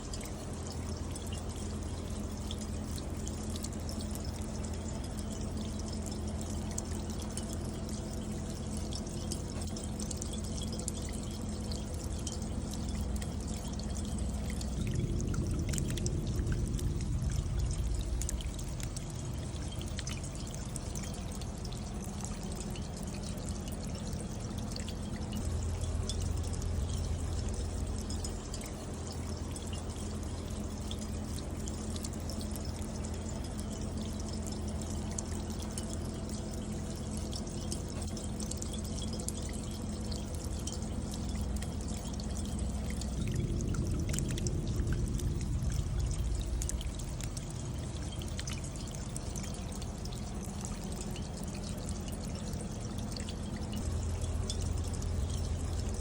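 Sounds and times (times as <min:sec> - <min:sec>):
rainwater pouring down rain chain: 0:00.0 - 0:56.0.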